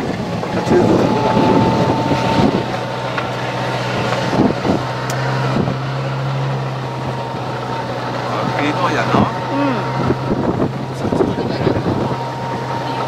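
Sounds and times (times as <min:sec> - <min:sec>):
vehicle engine humming: 0:00.0 - 0:13.0
wind and road noise: 0:00.0 - 0:13.0.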